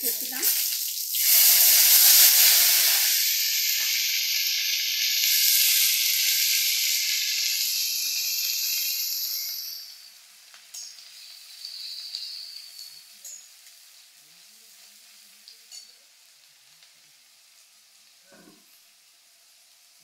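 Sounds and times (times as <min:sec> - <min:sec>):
onion paste sizzling in hot oil: 0:00.0 - 0:20.0.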